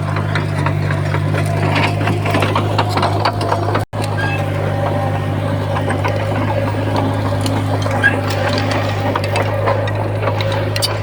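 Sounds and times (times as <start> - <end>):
diesel engine running: 0.0 - 11.0
metallic clanking and rattling: 0.0 - 11.0.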